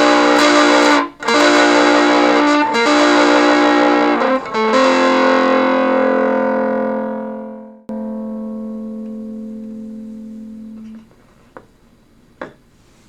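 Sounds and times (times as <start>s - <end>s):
electric guitar chord ringing: 0.0s - 11.4s.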